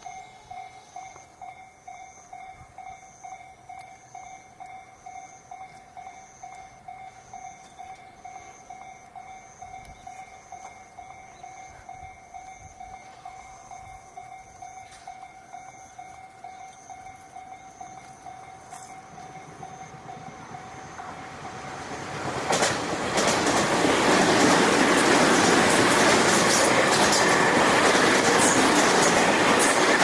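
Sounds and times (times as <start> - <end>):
level-crossing alarm ringing: 0.0 - 30.0.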